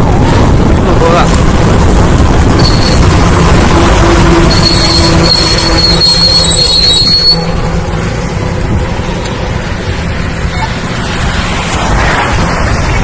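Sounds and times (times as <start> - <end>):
high whine: 0.0 - 10.6
vehicle road and wind noise: 0.0 - 13.0.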